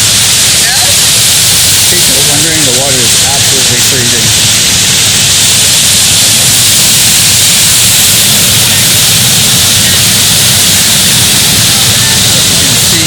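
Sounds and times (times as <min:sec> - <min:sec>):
water rushing over waterfalls: 0:00.0 - 0:13.0.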